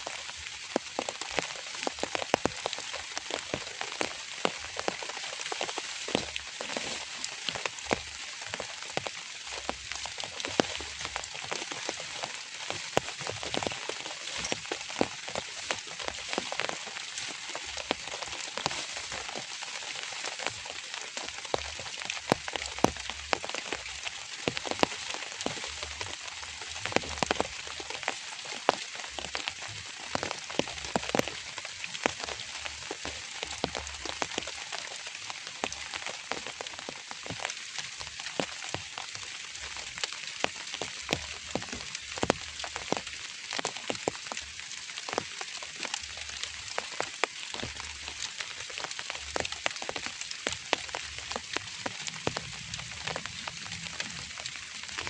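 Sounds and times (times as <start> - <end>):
raindrops tapping: 0.0 - 55.0.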